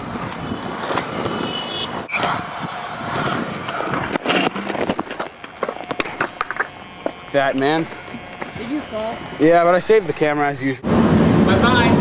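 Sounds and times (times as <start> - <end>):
scooter wheels rolling on concrete: 0.0 - 10.6.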